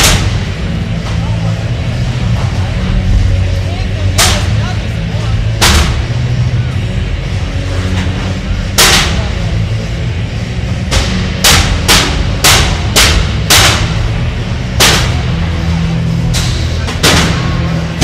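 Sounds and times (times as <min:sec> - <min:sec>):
loud metal bangs: 0:00.0 - 0:18.0
steady low rumble: 0:00.0 - 0:18.0.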